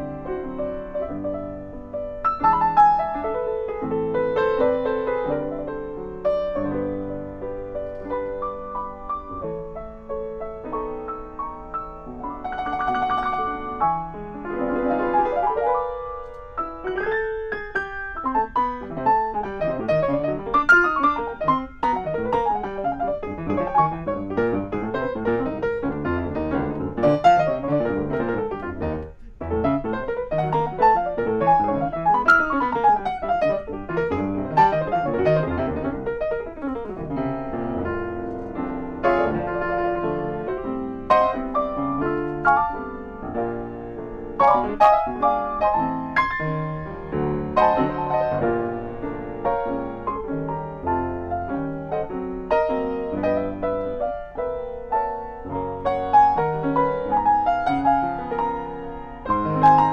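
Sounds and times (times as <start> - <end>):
grand piano playing: 0.0 - 59.9.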